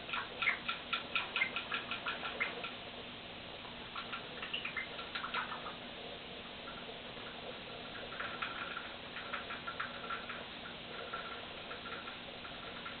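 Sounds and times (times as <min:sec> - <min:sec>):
parrot clicking and chirping: 0:00.0 - 0:02.8, 0:03.9 - 0:05.8, 0:06.7 - 0:13.0.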